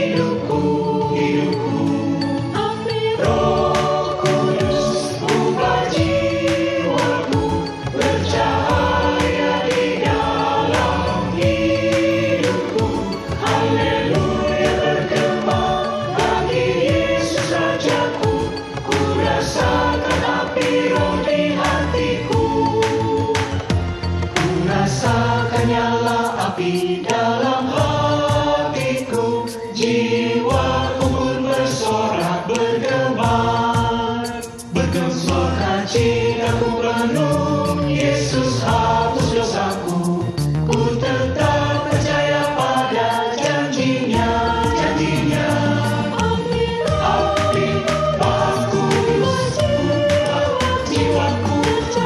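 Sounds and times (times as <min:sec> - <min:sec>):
church choir singing a hymn: 0:00.0 - 0:23.7, 0:24.4 - 0:52.0
instrumental accompaniment with beat: 0:00.0 - 0:52.0.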